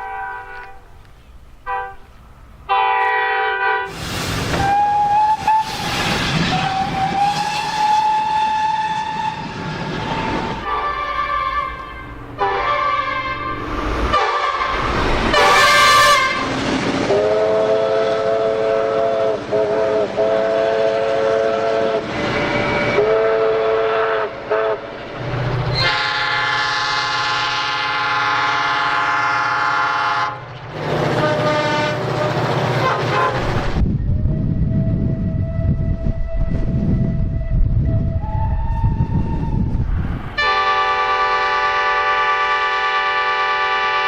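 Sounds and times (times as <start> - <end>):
train horn blasts: 0.0 - 1.0, 1.6 - 25.0, 25.7 - 39.8, 40.4 - 44.0.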